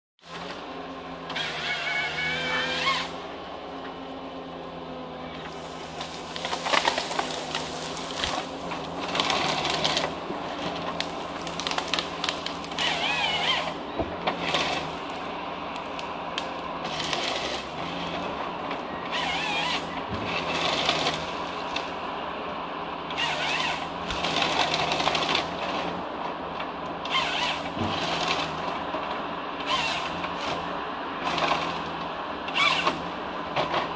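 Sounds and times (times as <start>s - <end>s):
diesel engine running: 0.2s - 33.9s
felling head whining and grinding: 0.2s - 33.9s.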